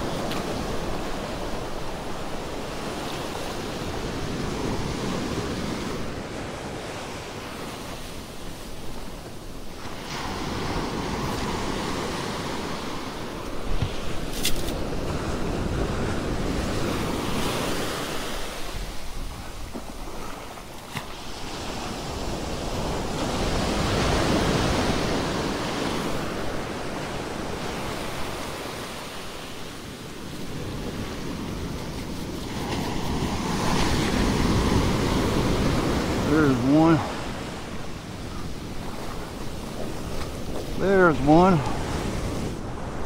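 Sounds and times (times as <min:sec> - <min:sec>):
ocean surf breaking: 0:00.0 - 0:43.0.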